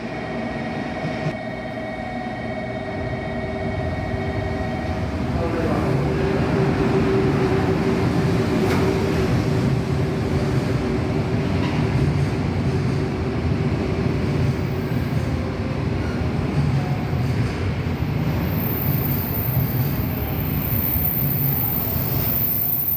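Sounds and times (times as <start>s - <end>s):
train wheels rumbling on rails: 3.2s - 22.9s.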